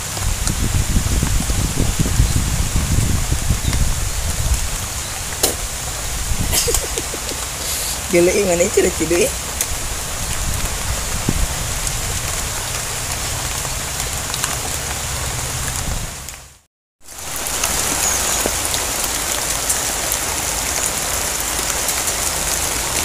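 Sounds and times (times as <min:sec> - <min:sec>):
rain falling on pond: 0:00.0 - 0:23.0.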